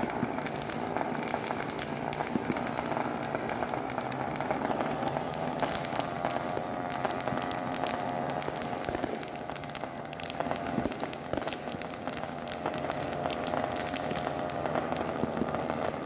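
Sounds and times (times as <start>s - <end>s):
firecracker pops crackling: 0.0s - 16.0s
fireworks spraying sparks: 0.0s - 16.0s.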